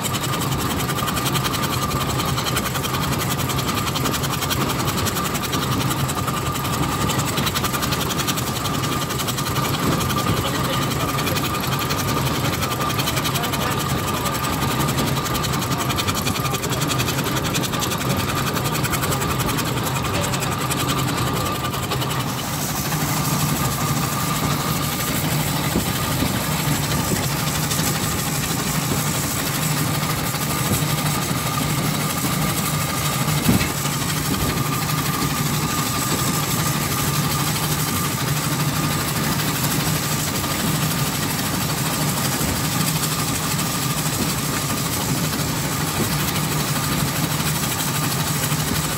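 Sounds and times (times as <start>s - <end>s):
steam engine mechanical clatter: 0.0s - 48.9s.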